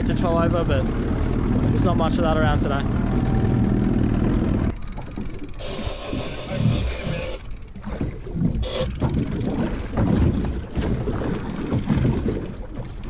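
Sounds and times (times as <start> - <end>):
small boat engine: 0.0 - 13.0
wind buffeting microphone: 0.0 - 13.0.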